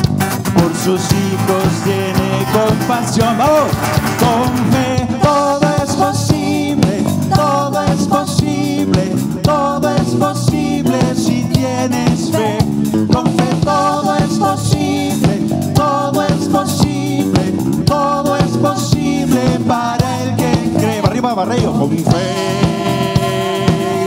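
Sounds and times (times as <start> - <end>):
drum kit beat: 0.0 - 24.0
electric bass: 0.0 - 24.0.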